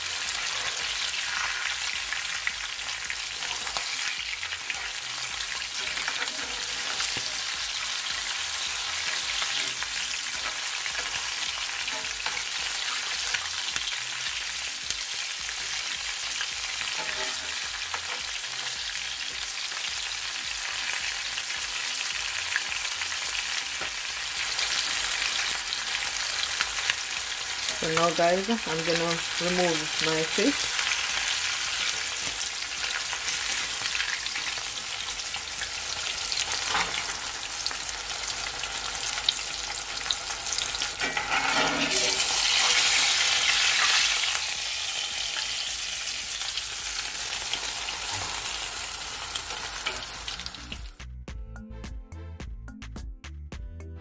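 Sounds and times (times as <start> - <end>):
oil crackling and popping: 0.0 - 28.5, 29.7 - 51.0
fish sizzling in hot oil: 0.0 - 51.0.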